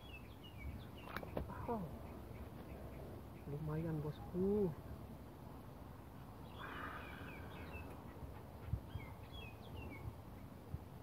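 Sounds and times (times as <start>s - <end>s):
small bird chirping: 0.0s - 4.8s, 6.3s - 10.7s
rural background noise: 0.0s - 11.0s.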